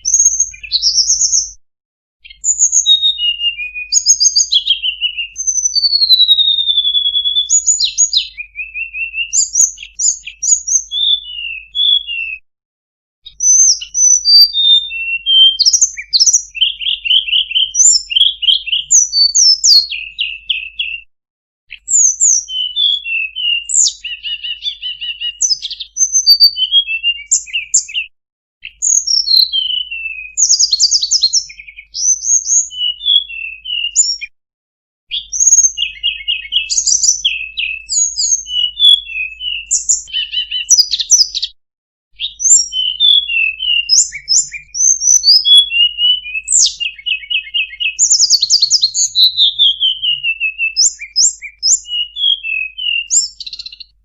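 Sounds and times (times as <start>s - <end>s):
bird singing chirps and trills: 0.0s - 1.6s, 2.2s - 12.4s, 13.2s - 21.0s, 21.7s - 34.3s, 35.1s - 41.6s, 42.2s - 54.0s.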